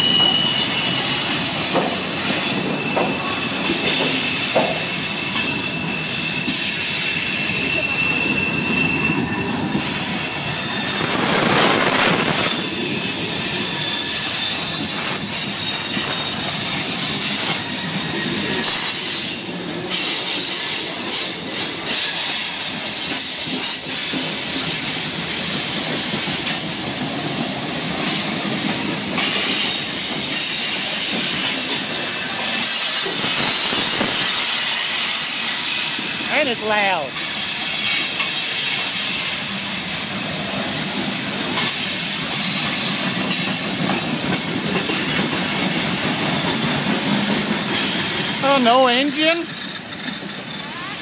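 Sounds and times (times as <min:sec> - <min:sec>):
freight train rumble and clatter: 0:00.0 - 0:51.0
steel wheels squealing on rails: 0:00.0 - 0:51.0.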